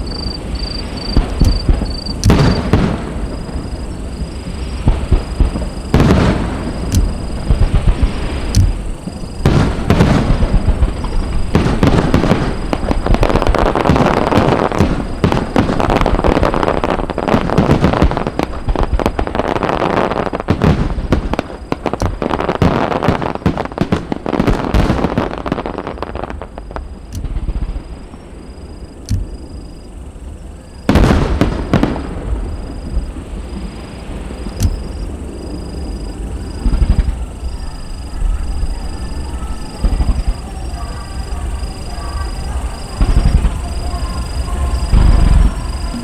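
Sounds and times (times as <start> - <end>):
fireworks crackling and booming: 0.0 - 46.0.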